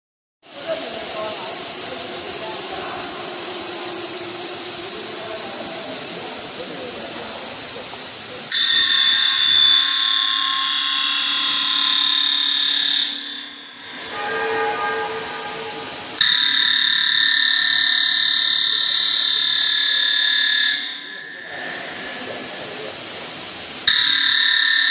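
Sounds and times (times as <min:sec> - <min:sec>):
router spindle cutting wood: 0:00.7 - 0:24.9.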